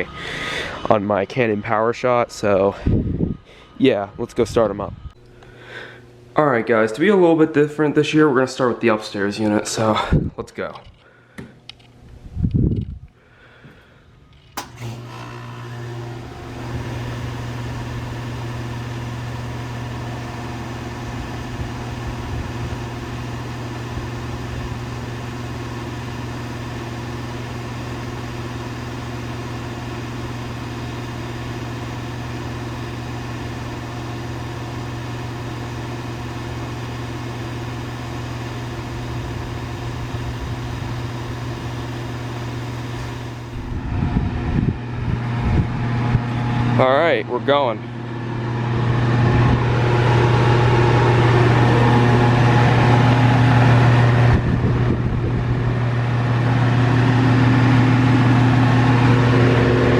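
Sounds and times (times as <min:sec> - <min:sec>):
compressor low hum: 0:00.0 - 0:59.9
condenser fan rushing: 0:04.3 - 0:10.3, 0:14.6 - 0:59.9.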